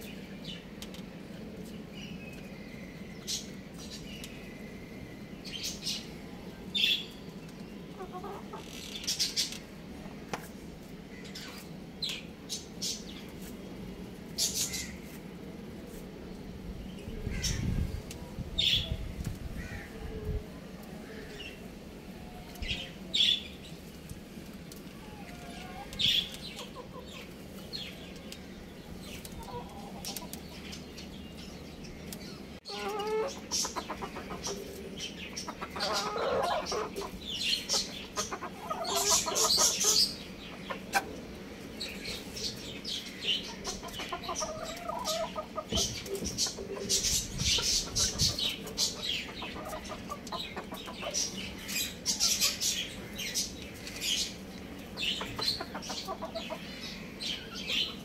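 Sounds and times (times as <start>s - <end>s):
young roosters clucking and calling: 0.0s - 58.0s.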